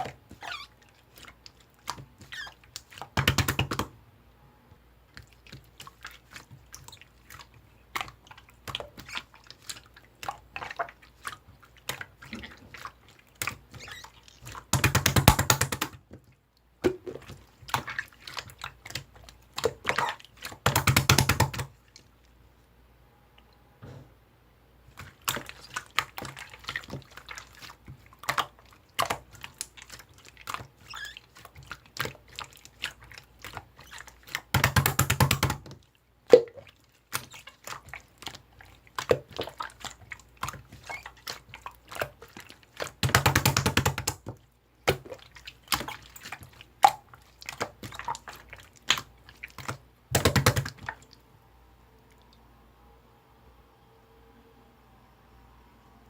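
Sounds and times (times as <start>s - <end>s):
rapid slime crackling: 0.0s - 3.9s, 5.2s - 16.3s, 16.9s - 22.0s, 25.0s - 35.9s, 36.5s - 51.1s
slime squished by hand: 0.0s - 3.9s, 5.1s - 22.0s, 24.9s - 51.2s.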